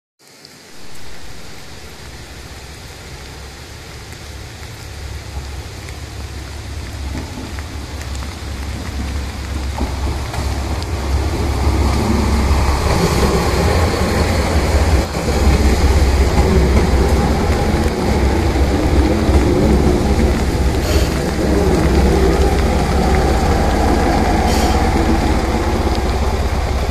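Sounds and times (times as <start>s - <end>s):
heavy rain hissing: 0.2s - 26.9s
diesel train engine rumble: 0.7s - 26.9s.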